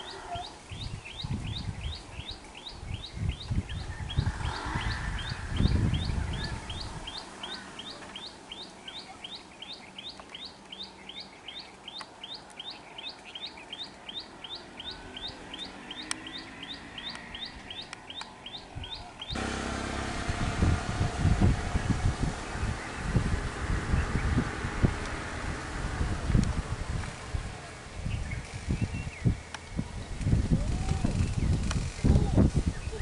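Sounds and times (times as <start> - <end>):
low rumbling wind gusts: 0.0 - 8.6, 14.8 - 33.0
bird chirping: 0.0 - 19.4, 20.7 - 30.0.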